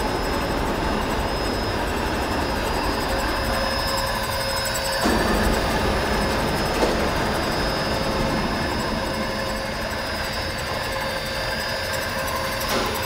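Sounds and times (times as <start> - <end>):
machine hum: 0.0 - 13.0
thin high whine: 0.0 - 13.0.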